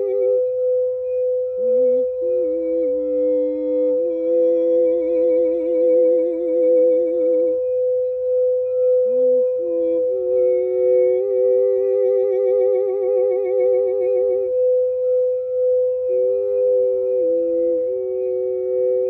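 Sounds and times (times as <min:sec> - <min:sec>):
low wavering humming tone: 0:00.0 - 0:19.0
singing bowl tone: 0:00.0 - 0:19.0.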